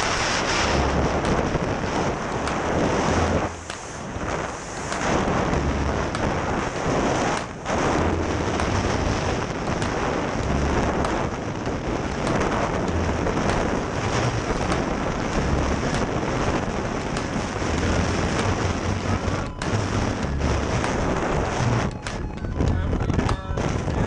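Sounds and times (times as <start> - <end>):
low thuds of gusts: 0.0 - 24.0
wind buffeting microphone: 0.0 - 24.0.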